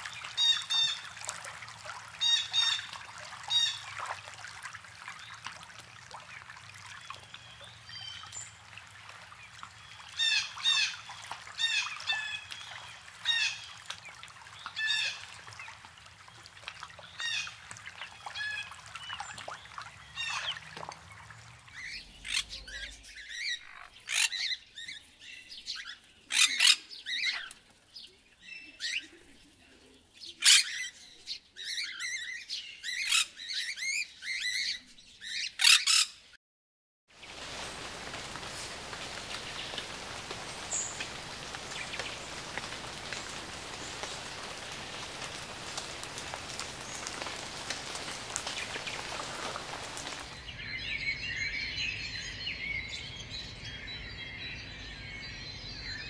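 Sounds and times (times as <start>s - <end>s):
birds chirping: 0.0s - 29.2s, 37.2s - 56.0s.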